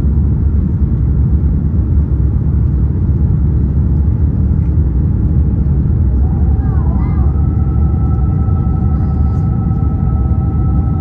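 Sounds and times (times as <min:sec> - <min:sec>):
aircraft engines and airflow rumble: 0:00.0 - 0:11.0.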